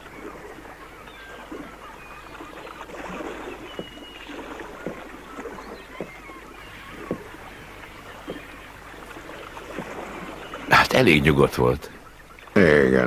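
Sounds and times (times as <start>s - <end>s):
short water splash: 0.0s - 10.9s
water lapping against pilings: 0.0s - 13.0s.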